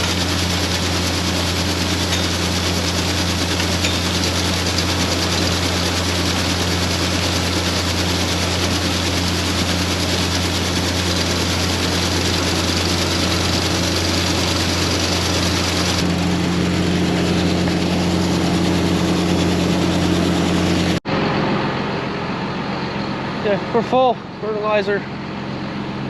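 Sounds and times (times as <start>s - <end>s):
tractor engine running: 0.0s - 25.8s.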